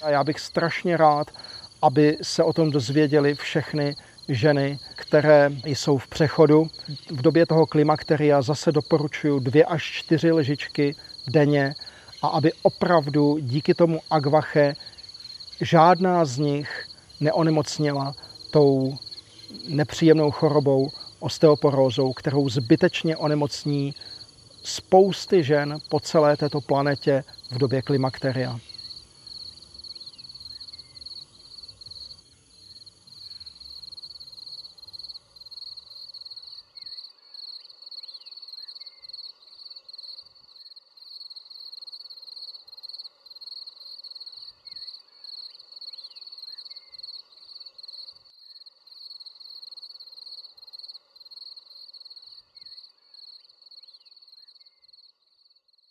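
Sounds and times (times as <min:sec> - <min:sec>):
insects chirping in a trill: 0:00.0 - 0:55.9.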